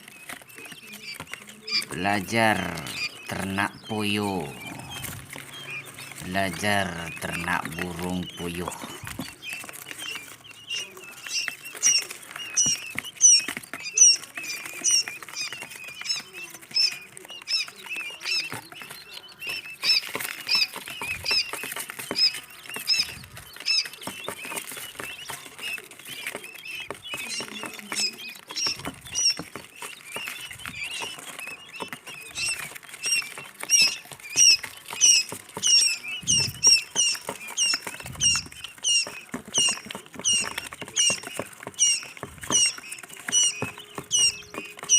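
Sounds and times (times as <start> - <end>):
chicks peeping: 0.0 - 44.9
faint scratching and patter: 0.0 - 44.9.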